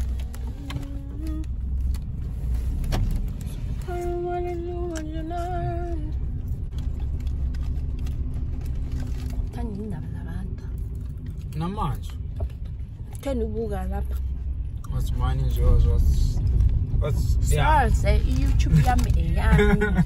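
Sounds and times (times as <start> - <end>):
car cabin rumble: 0.0 - 20.0.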